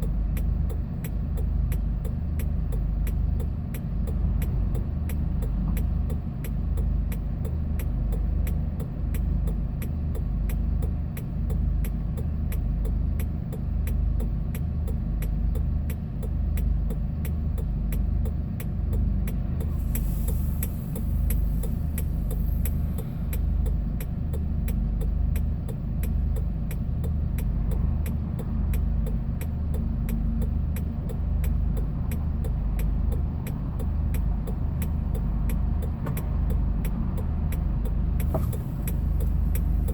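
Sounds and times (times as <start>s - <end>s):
faint regular ticking: 0.0s - 39.9s
truck engine and road rumble: 0.0s - 39.9s.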